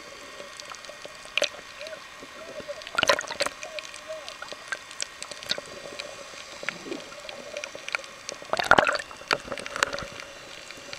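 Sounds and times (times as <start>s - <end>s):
bubbling: 0.0s - 10.9s
faint steady hum: 0.0s - 10.9s
underwater clicks and crackles: 0.0s - 10.9s.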